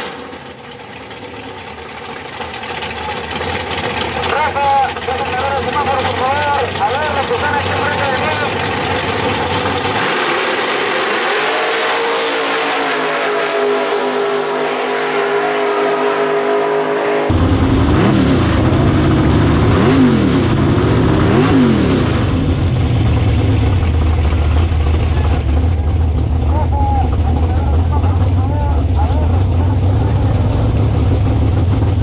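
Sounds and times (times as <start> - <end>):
race car engines running: 0.0 - 16.2, 17.3 - 32.0
engine throttle blips: 0.0 - 32.0.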